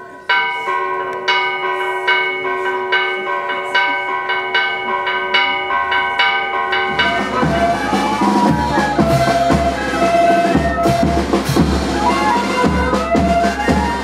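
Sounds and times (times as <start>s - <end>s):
church bell pealing: 0.0s - 12.9s.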